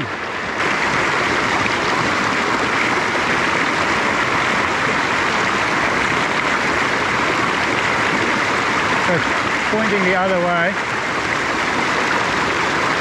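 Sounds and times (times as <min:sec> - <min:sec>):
river rushing over boulders: 0:00.0 - 0:13.0.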